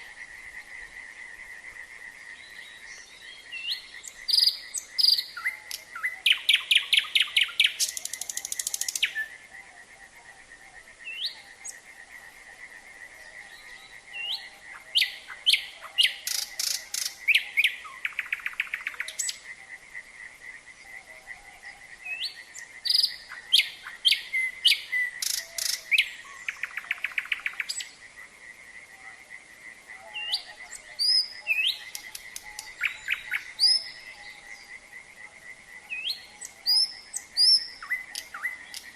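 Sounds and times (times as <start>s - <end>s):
nightingale singing: 0.0s - 28.3s, 28.9s - 38.9s
frog chorus trilling: 0.0s - 38.9s.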